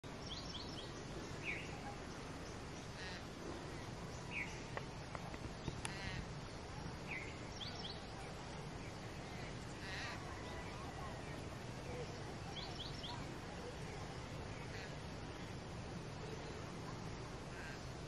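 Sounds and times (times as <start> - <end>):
steady outdoor hiss: 0.0 - 18.0
raspy bird calls: 0.2 - 4.8, 5.6 - 6.4, 7.0 - 15.6, 17.4 - 18.0.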